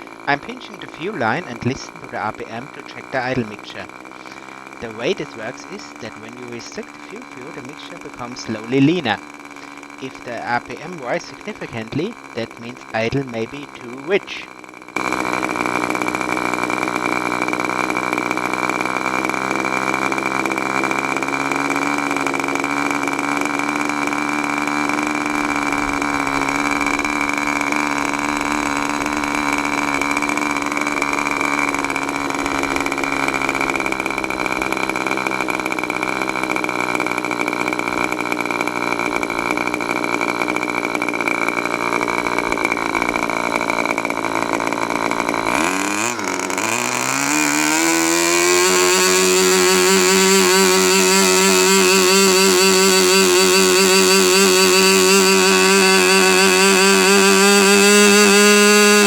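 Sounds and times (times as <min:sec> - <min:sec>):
model engine idling: 0:00.0 - 0:59.0.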